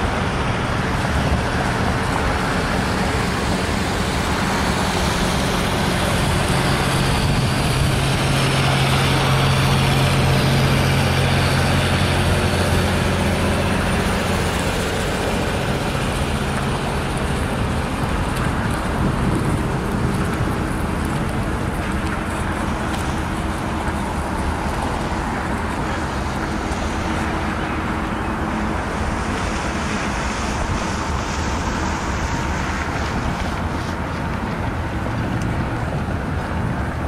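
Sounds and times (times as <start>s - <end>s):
truck driving on road: 0.0s - 37.0s.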